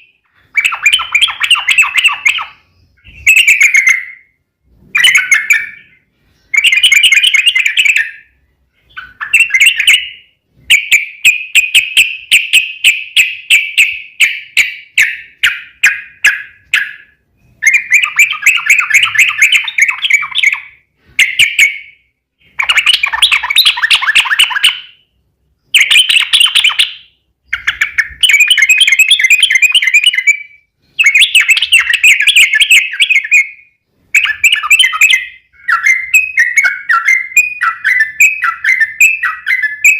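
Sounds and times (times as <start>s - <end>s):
bulbul chattering song: 0.0s - 4.4s, 5.0s - 39.9s.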